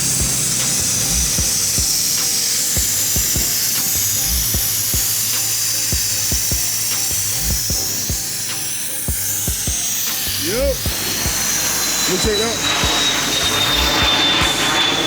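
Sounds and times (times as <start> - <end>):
background music with beat: 0.0 - 15.0
sandblaster hissing: 0.0 - 15.0.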